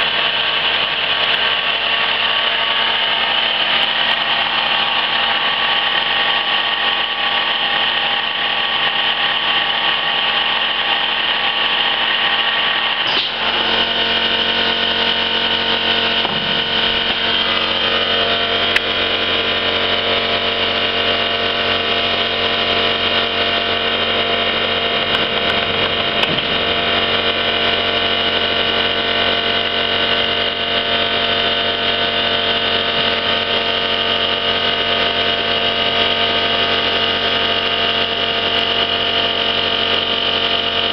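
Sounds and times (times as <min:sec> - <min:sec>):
lathe motor humming and whining: 0:00.0 - 0:40.9.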